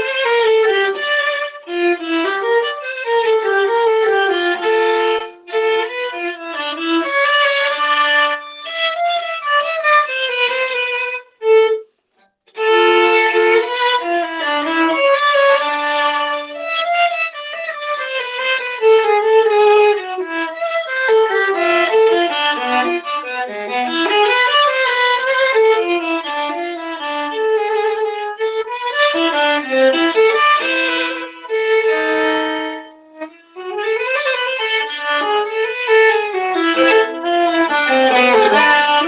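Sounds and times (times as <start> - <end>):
solo viola melody: 0.0 - 39.0.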